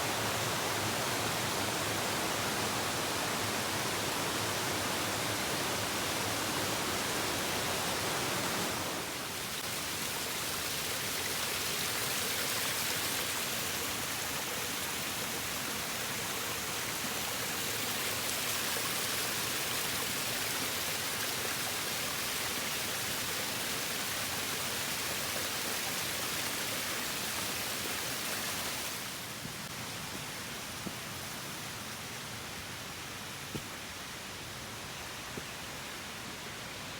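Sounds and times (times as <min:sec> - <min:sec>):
mountain stream rushing: 0:00.0 - 0:36.9.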